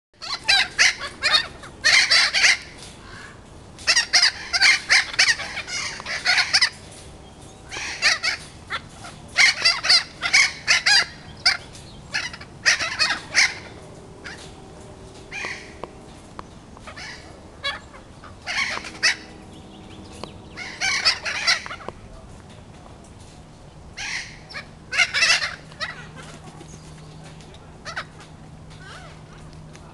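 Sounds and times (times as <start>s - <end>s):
parrots squawking: 0.2s - 16.2s, 16.8s - 22.0s, 23.9s - 26.9s, 27.7s - 29.5s.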